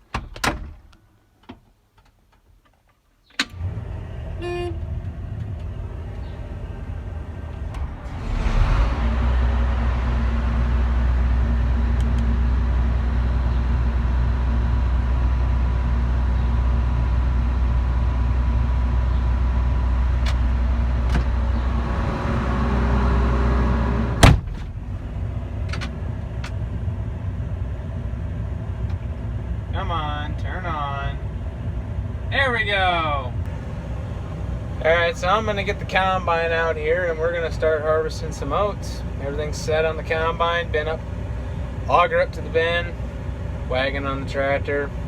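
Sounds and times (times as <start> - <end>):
vehicle engine humming: 3.5 - 45.0.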